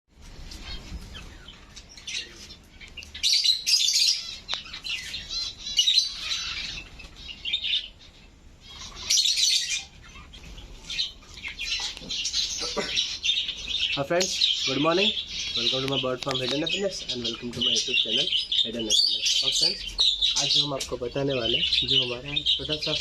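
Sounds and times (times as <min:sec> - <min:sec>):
flock of birds chirping: 0:00.1 - 0:23.0.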